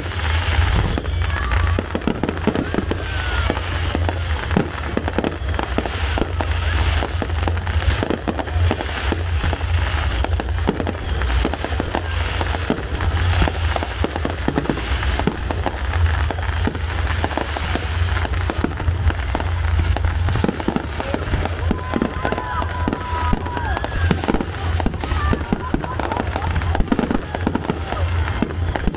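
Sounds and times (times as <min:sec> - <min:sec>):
deep steady rumble: 0:00.0 - 0:28.9
fireworks bursting with bangs: 0:00.0 - 0:28.9
fireworks crackling: 0:00.0 - 0:28.9.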